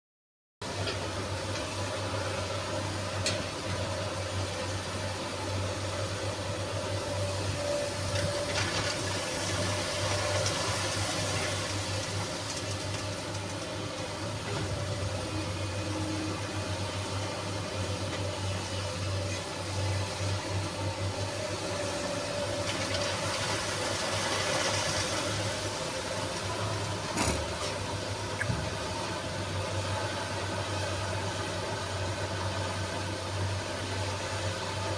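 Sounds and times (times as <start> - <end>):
excavator engine running: 0.7 - 34.9.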